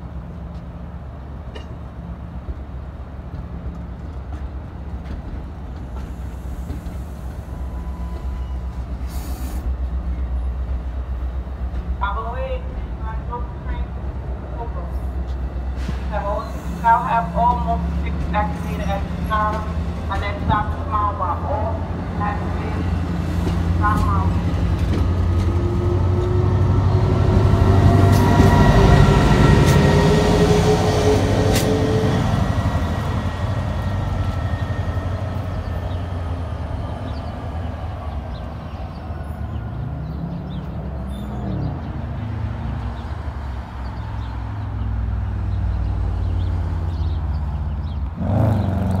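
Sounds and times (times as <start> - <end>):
diesel locomotive engine rumble: 0.0 - 49.0
train cars rolling: 0.2 - 46.9.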